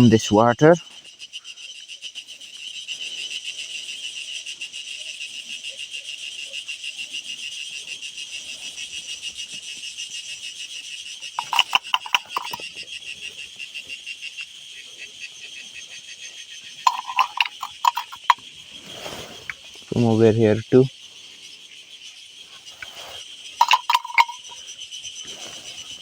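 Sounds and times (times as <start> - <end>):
cicadas buzzing: 0.0 - 26.0
lower pulsing insect call: 0.0 - 26.0.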